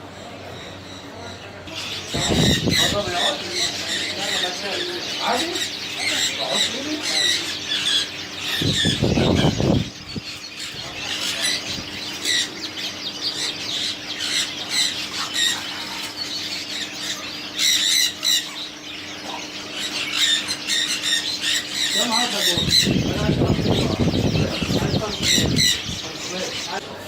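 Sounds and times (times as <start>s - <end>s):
birds squawking and calling: 0.0s - 27.0s
steady low hum: 0.0s - 27.0s.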